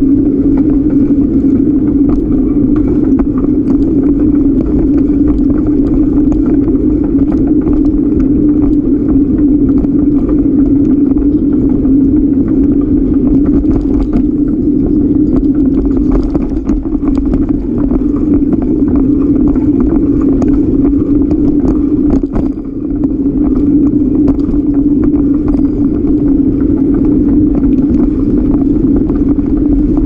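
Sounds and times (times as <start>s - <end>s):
bicycle tyres rumbling on concrete: 0.0s - 30.0s
bike rattles and clicks: 0.0s - 30.0s.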